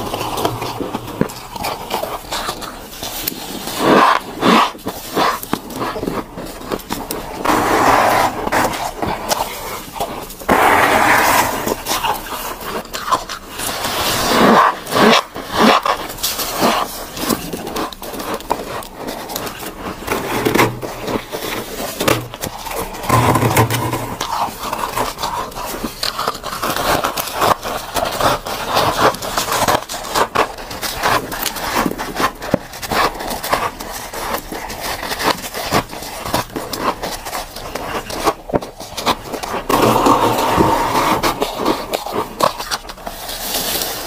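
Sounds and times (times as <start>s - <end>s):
frost crunching and scraping: 0.0s - 44.0s.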